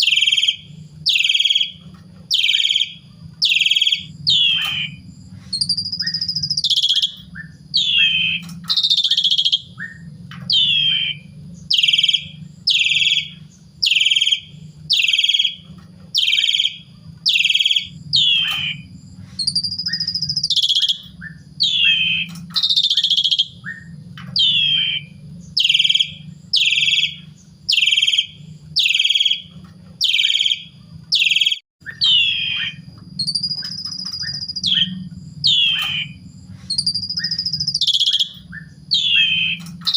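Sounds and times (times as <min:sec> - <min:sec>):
low steady hum: 0:00.0 - 0:31.2, 0:31.8 - 0:39.9
starling singing: 0:00.0 - 0:39.9.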